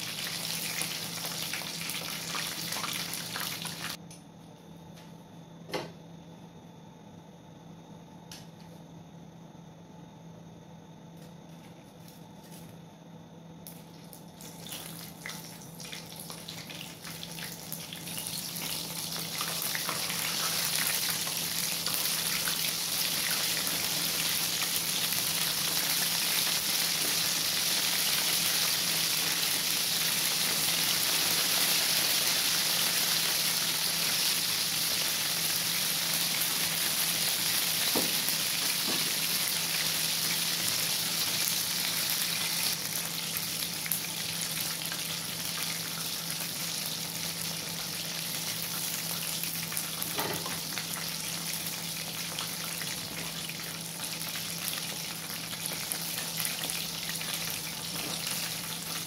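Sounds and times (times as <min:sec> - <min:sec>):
chicken deep-frying in oil: 0:00.0 - 0:04.0, 0:13.7 - 0:59.0.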